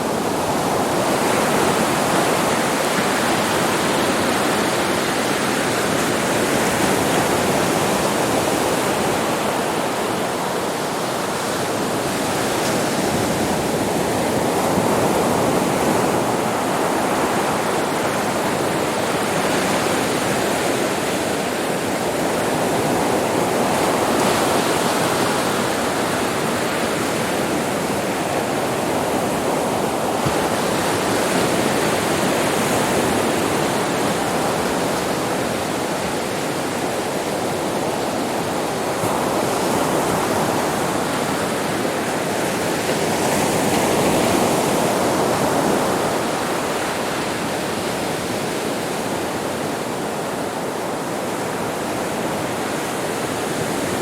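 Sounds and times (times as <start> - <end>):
waves washing on beach: 0.0 - 54.0.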